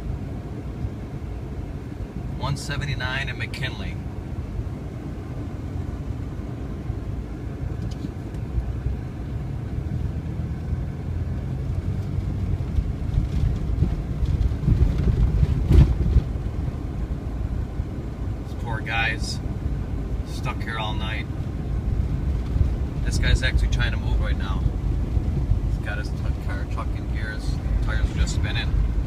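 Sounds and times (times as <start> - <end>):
car cabin low rumble: 0.0 - 29.0.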